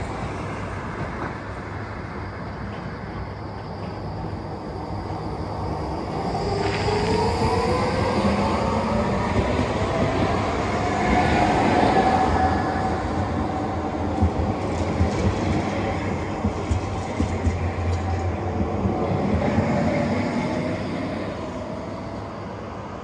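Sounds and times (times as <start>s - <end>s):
tram drive whining: 0.0s - 23.0s.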